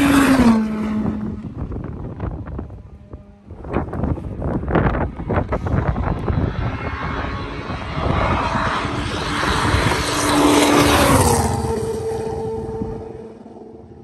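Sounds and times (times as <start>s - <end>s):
rally car passing at high revs: 0.0s - 14.0s.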